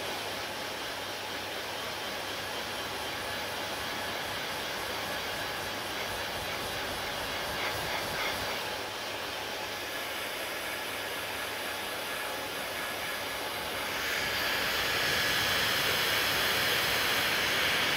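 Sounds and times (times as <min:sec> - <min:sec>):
hair dryer blowing: 0:00.0 - 0:17.9.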